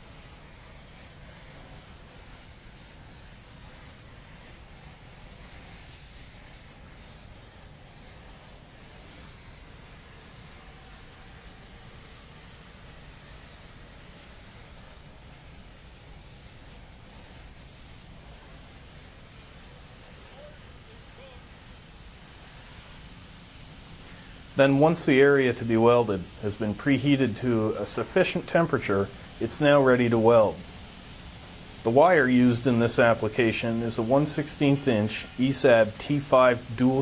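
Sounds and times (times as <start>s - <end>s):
heating torch flame hissing: 0.0s - 37.0s.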